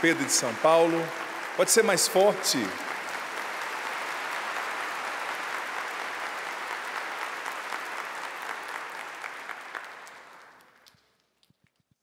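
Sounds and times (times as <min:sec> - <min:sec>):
crowd applauding: 0:00.0 - 0:10.9.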